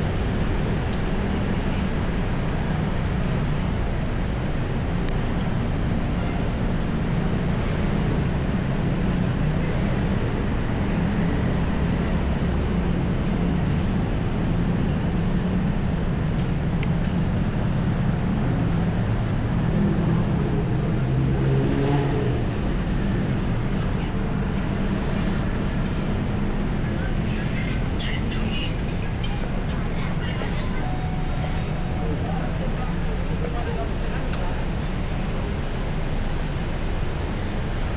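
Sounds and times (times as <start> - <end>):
city traffic drone: 0.0 - 37.9.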